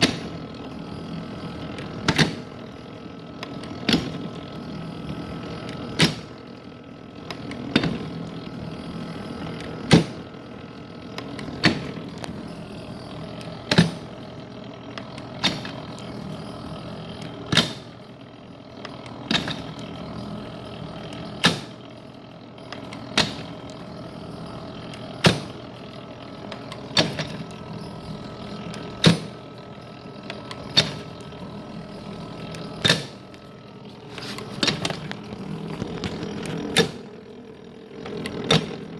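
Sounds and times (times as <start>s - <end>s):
metal planer humming: 0.0s - 38.9s.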